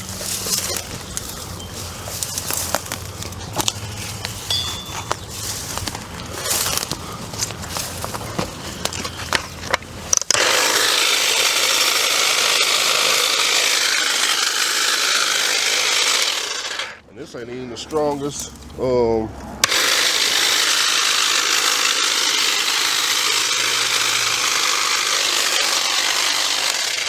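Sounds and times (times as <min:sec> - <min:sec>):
branches crackling and snapping: 0:00.0 - 0:27.0
brush cutter whirring: 0:00.0 - 0:27.0.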